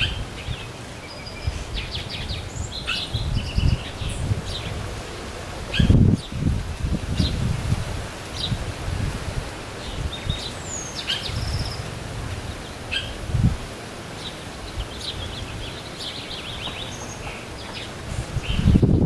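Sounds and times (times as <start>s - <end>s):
low microphone rumble: 0.0s - 19.0s
small birds chirping: 0.0s - 19.0s.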